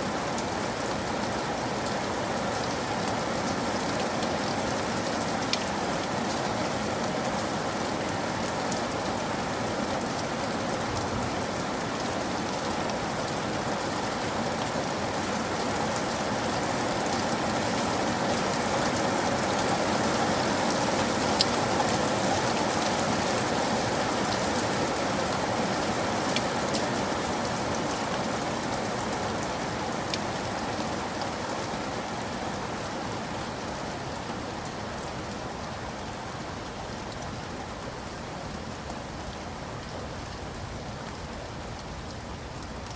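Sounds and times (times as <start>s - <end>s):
heavy rain ticking on a surface: 0.0s - 42.9s.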